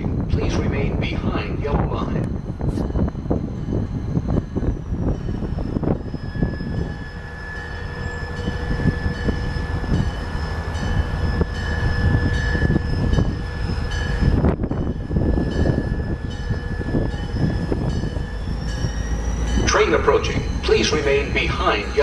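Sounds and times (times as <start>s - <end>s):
train rumbling: 0.0s - 22.0s
high wheel squeal: 3.8s - 22.0s.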